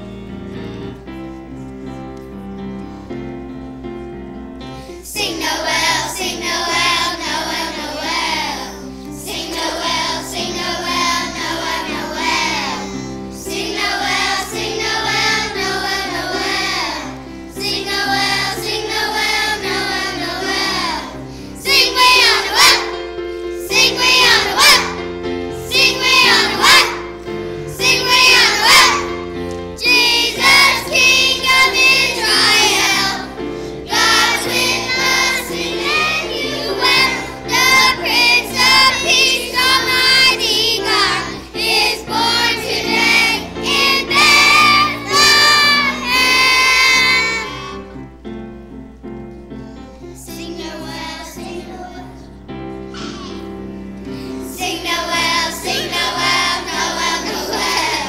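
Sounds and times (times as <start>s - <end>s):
instrumental accompaniment: 0.0s - 51.6s
children's choir singing: 4.9s - 48.2s, 50.0s - 58.0s.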